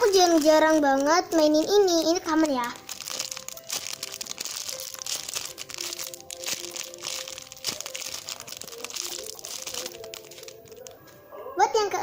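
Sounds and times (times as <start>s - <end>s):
foam toy crinkling and rustling: 0.0s - 11.2s
soft background music: 0.0s - 12.0s.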